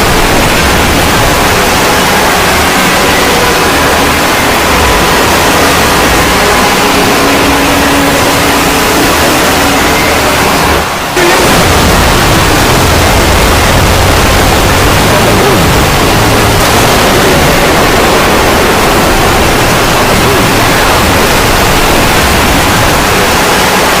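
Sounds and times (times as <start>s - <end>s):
loud harsh static noise: 0.0s - 24.0s.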